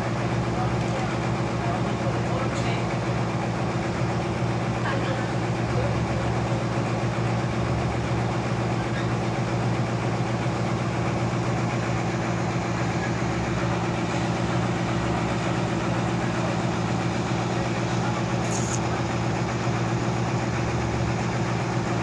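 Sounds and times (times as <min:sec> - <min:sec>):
sawmill engine idling: 0:00.0 - 0:22.0.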